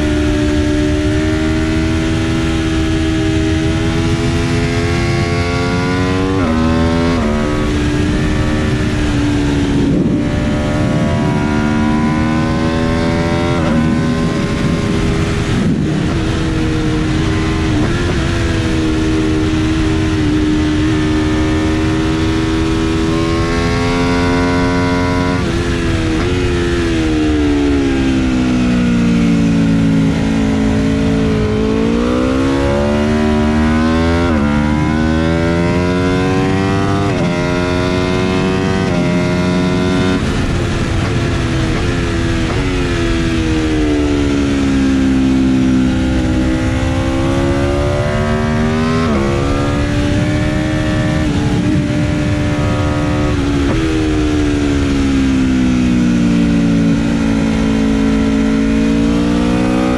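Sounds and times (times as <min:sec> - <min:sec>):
motorcycle engine at full throttle: 0:00.0 - 0:59.9
wind rushing on microphone: 0:00.0 - 0:59.9.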